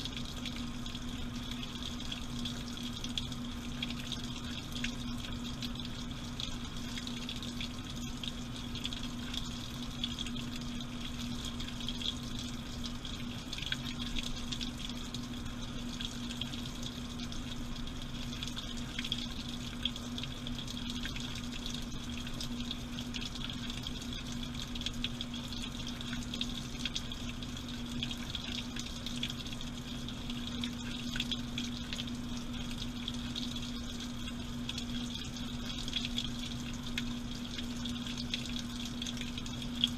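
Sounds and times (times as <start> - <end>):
small ticks and drips: 0.0 - 39.9
water splashing in washing machine: 0.0 - 39.9.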